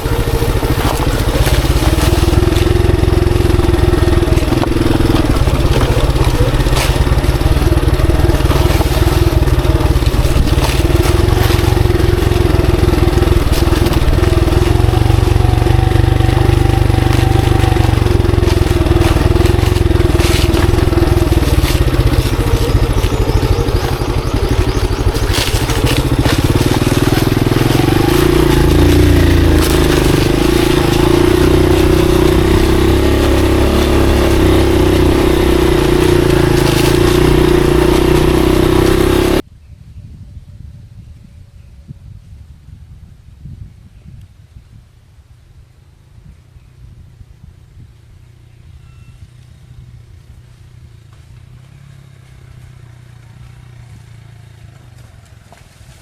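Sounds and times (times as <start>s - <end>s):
motorcycle engine running: 0.0s - 39.5s, 45.4s - 56.0s.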